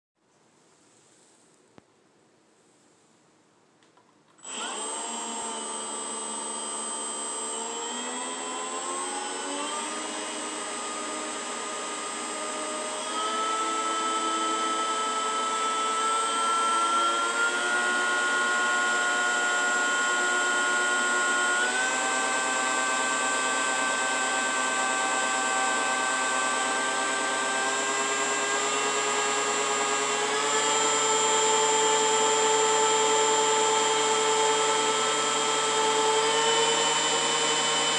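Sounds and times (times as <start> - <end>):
leaf blower electric whine: 4.4 - 37.9.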